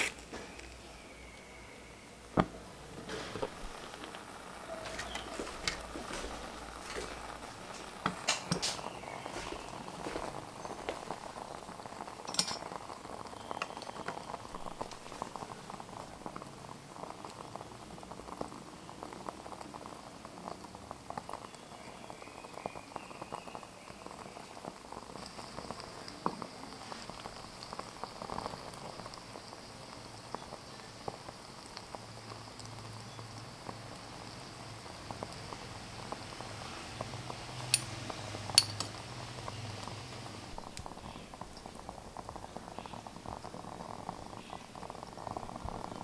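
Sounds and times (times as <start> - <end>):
liquid bubbling in a pot: 0.0 - 46.0.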